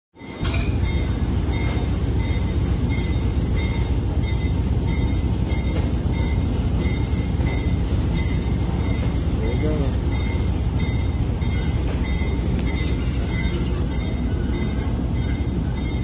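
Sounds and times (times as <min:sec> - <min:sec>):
train rumbling on track: 0:00.2 - 0:16.0
wheels clicking on rails: 0:00.2 - 0:16.0.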